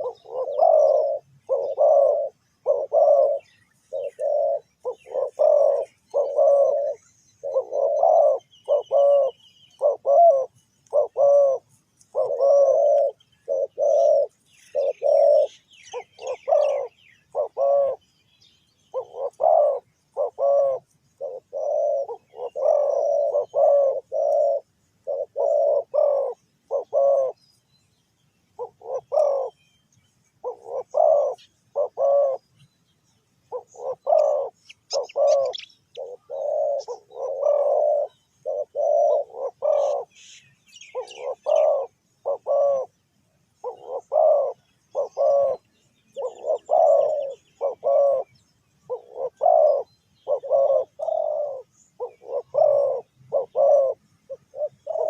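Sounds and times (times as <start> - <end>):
doves cooing: 0.0 - 18.2, 18.8 - 27.6, 28.5 - 29.6, 30.2 - 55.0
faint small bird chirps: 0.0 - 55.0.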